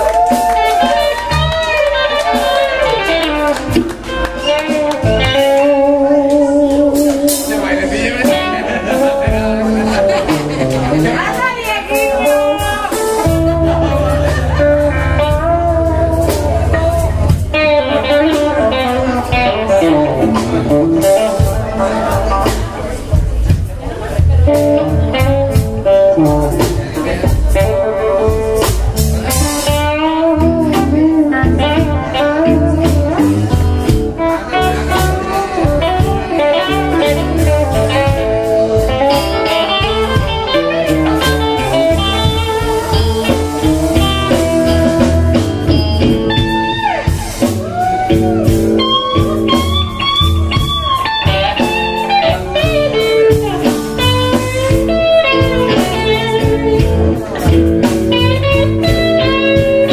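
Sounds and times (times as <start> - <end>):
bass guitar: 0.0 - 59.9
drum kit beat: 0.0 - 59.9
electric guitar lead: 0.0 - 59.9.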